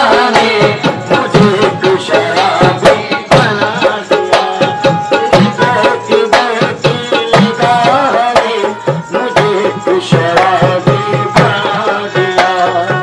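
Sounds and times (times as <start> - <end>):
dholak drumming: 0.0 - 13.0
harmonium melody: 0.0 - 13.0.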